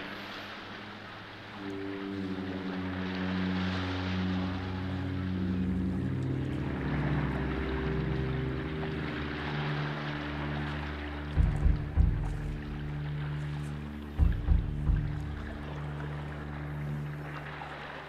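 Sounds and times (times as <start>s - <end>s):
slow music of low chords: 0.0s - 18.0s.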